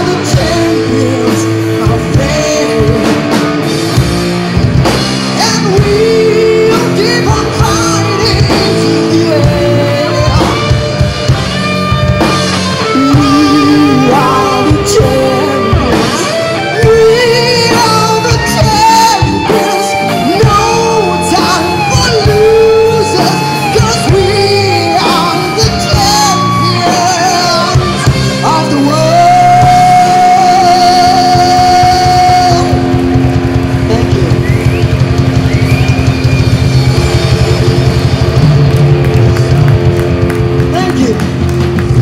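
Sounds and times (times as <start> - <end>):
lead singer singing: 0.0 - 4.0, 4.9 - 38.4
live rock band playing: 0.0 - 42.0.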